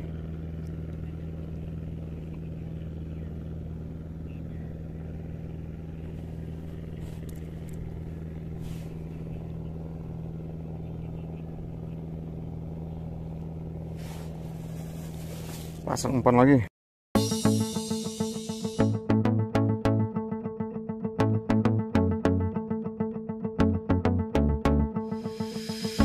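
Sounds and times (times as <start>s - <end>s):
engine humming steadily: 0.0s - 16.6s, 17.2s - 20.1s, 23.6s - 26.0s.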